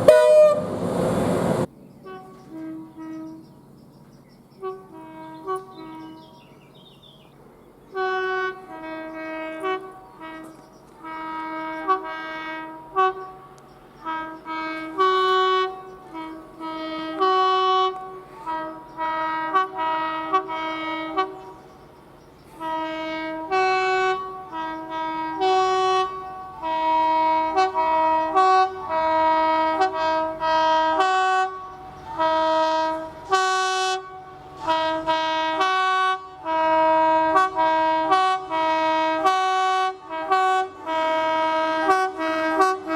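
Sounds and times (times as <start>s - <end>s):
two-tone train horn blasts: 0.0s - 3.5s, 4.6s - 6.4s, 7.9s - 21.8s, 22.4s - 42.9s.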